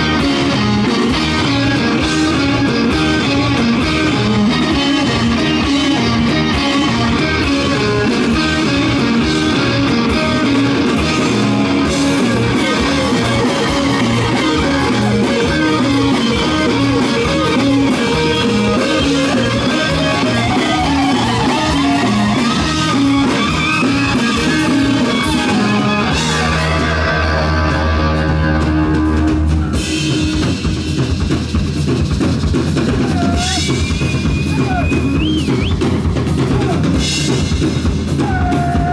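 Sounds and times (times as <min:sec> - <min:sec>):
bass guitar: 0:00.0 - 0:38.9
drum kit rhythm: 0:00.0 - 0:38.9
electric guitars: 0:00.0 - 0:38.9
live rock band playing: 0:00.0 - 0:38.9.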